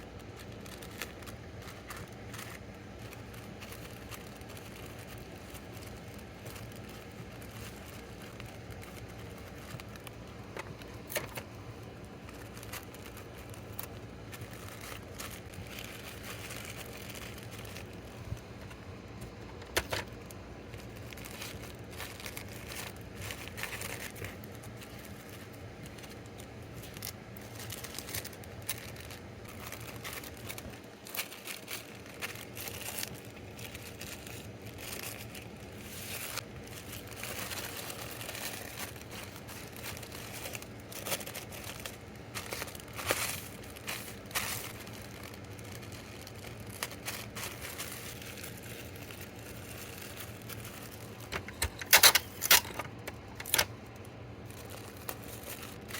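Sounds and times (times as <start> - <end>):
plastic packaging crinkling: 0.0 - 55.9.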